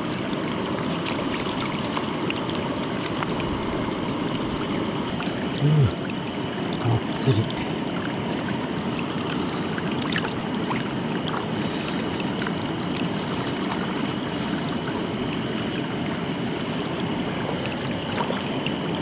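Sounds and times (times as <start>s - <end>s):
water rushing over rocks: 0.0s - 19.0s.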